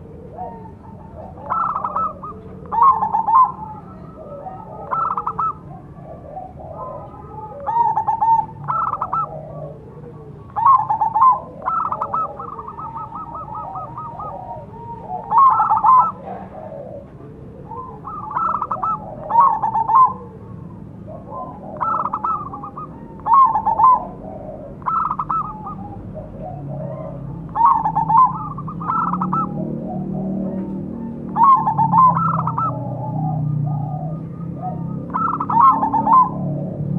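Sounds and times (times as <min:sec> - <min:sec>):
fainter lower bird calls: 0:00.0 - 0:36.4
dove cooing: 0:00.0 - 0:36.9.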